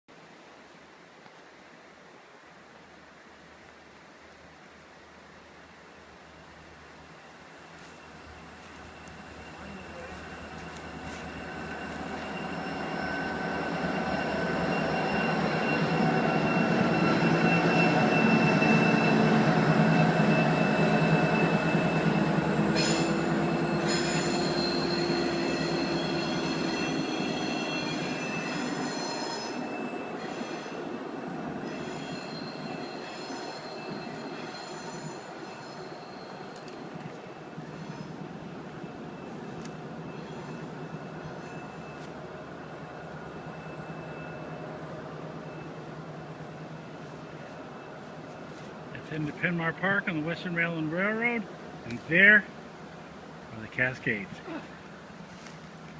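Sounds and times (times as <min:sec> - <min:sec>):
train rumbling past: 0:04.4 - 0:55.9
wheels squealing on rails: 0:06.1 - 0:51.5.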